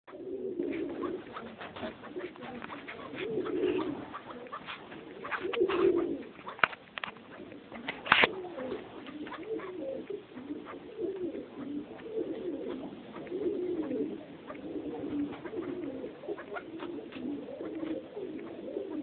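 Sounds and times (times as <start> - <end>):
partridges warbling calls: 0.1 - 19.0
scratching and clicks: 0.6 - 19.0.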